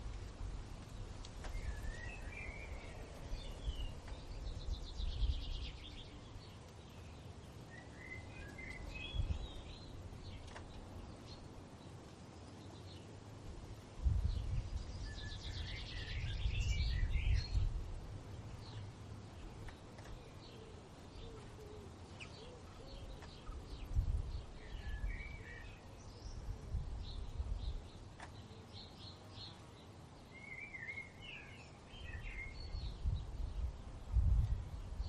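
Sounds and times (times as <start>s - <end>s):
wind rumbling on microphone: 0.0s - 6.9s, 7.9s - 11.8s, 12.7s - 21.5s, 22.6s - 28.2s, 31.9s - 35.0s
songbirds chirping and singing: 0.0s - 35.0s.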